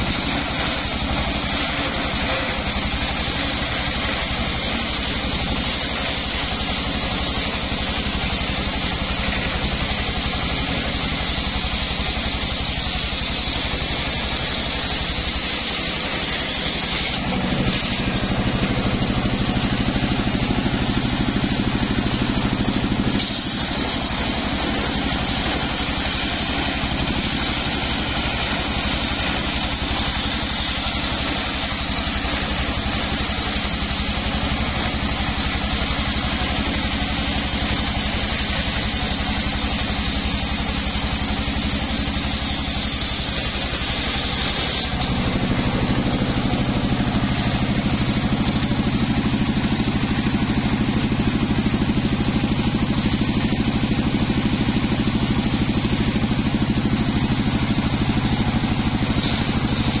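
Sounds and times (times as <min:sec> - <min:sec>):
engine drone: 0:00.0 - 1:00.0
saw blade cutting whine: 0:00.0 - 1:00.0.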